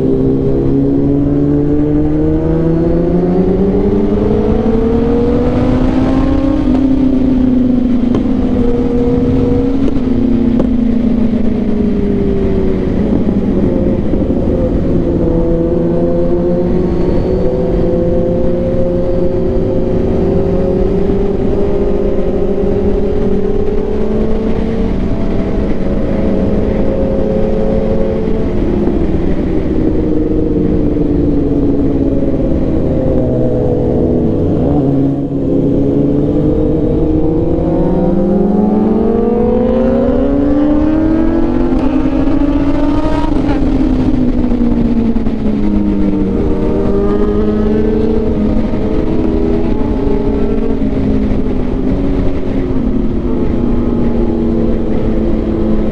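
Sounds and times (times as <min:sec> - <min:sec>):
motorcycle engines accelerating: 0:00.0 - 0:55.9.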